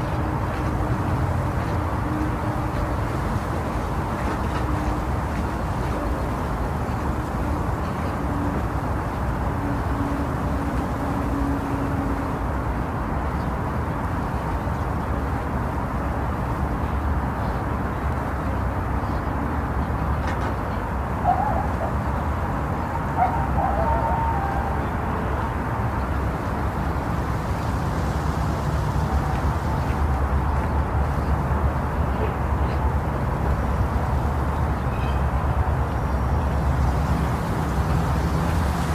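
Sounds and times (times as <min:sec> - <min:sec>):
deep rushing white noise: 0:00.0 - 0:20.1, 0:20.8 - 0:38.9.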